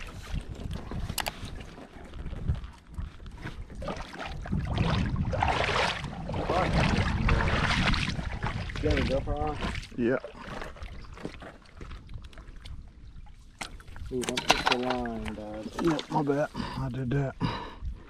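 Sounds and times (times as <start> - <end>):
wind rumbling on microphone: 0.0 - 15.9.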